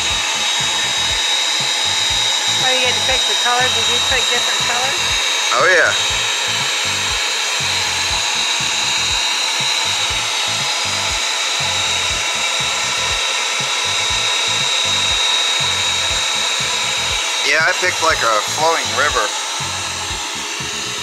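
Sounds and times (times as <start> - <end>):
constant high tone: 0.0 - 21.0
key cutting machine motor whine: 0.0 - 21.0.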